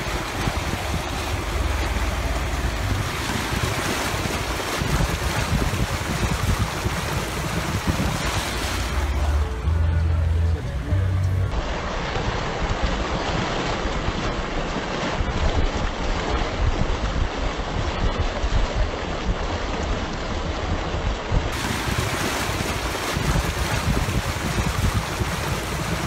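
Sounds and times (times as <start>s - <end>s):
wind buffeting microphone: 0.0s - 9.8s, 11.6s - 26.0s.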